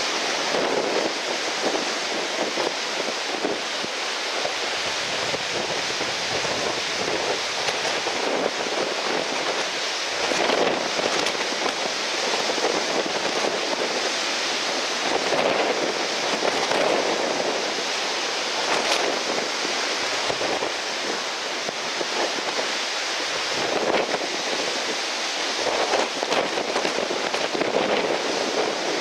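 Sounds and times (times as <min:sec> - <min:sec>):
strong wind: 0:00.0 - 0:29.0
surf: 0:00.0 - 0:29.0.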